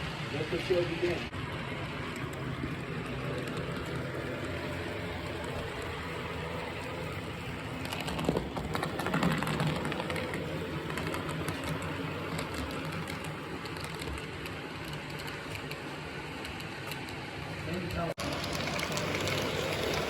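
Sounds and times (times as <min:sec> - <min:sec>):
model train whirring and rattling: 0:00.0 - 0:20.0.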